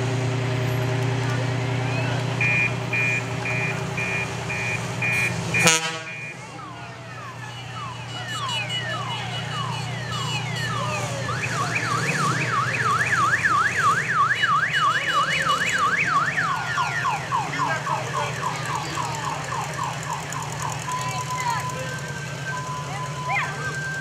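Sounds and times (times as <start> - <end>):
engine running: 0.0 - 24.0
electronic siren: 1.8 - 24.0.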